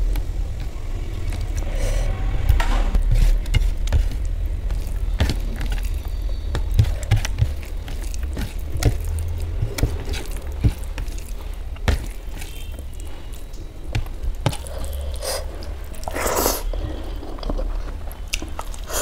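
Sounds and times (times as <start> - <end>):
wet squishes of hand mixing food: 0.0 - 1.7, 3.0 - 19.0
steady low hum: 0.0 - 19.0.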